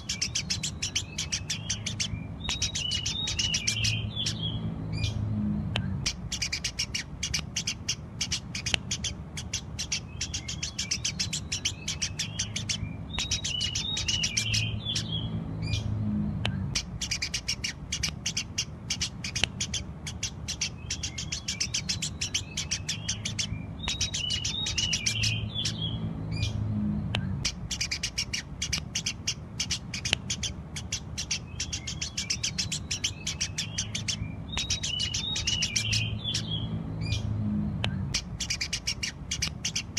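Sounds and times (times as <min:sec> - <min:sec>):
low steady hum: 0:00.0 - 0:39.9
sparrows chirping: 0:00.0 - 0:39.9.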